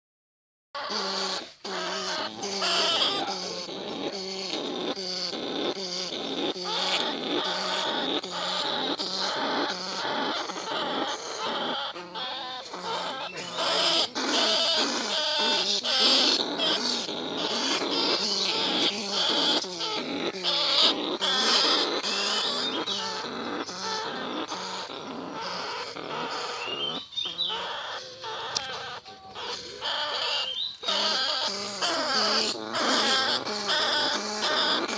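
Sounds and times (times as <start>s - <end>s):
rats squeaking and chattering: 0.8s - 34.9s.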